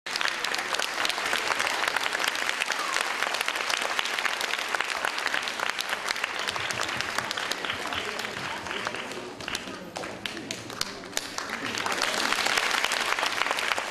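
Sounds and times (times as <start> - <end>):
crowd applauding: 0.1 - 13.9.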